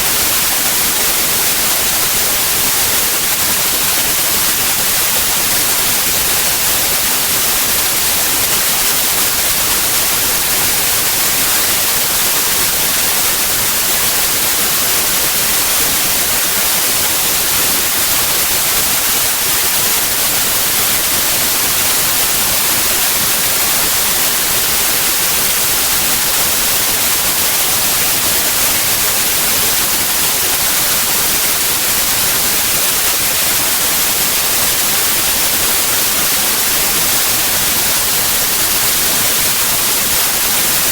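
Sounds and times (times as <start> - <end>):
loud white noise hiss: 0.0 - 40.9.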